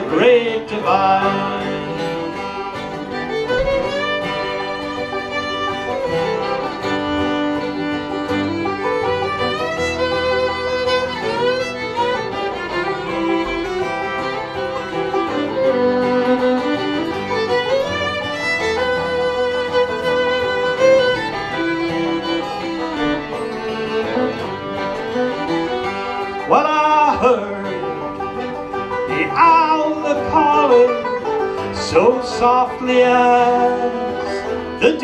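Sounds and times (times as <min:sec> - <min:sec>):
fiddle melody: 0:00.0 - 0:35.0
picked banjo: 0:00.0 - 0:35.0
strummed acoustic guitar: 0:00.0 - 0:35.0.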